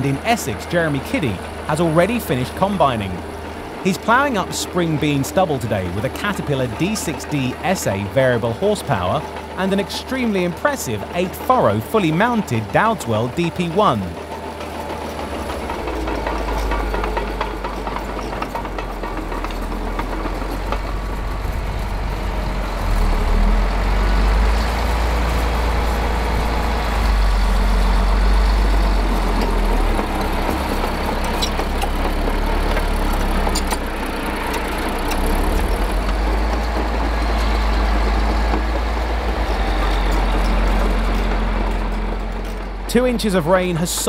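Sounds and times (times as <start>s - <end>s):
diesel engine rumbling under load: 0.0s - 44.0s.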